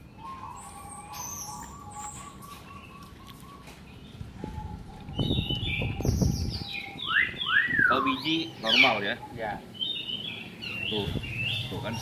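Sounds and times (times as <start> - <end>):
caged birds long even call: 0.0 - 12.0.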